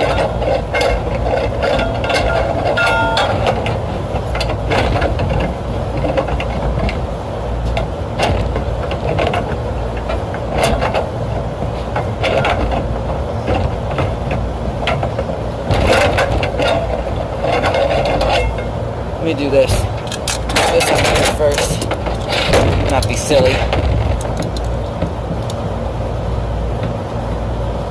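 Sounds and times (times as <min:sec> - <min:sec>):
clicks and rattles of metal parts: 0:00.0 - 0:25.7
steady low rumble: 0:00.0 - 0:27.9.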